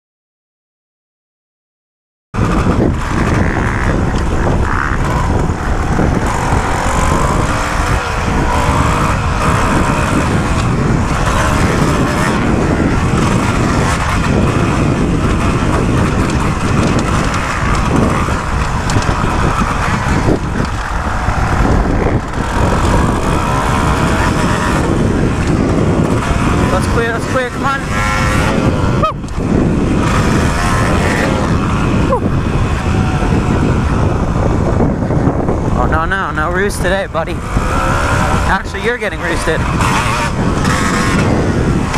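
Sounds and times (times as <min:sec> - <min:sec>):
motocross bike engine revving: 0:02.4 - 0:41.9
wind noise on microphone: 0:02.4 - 0:41.9.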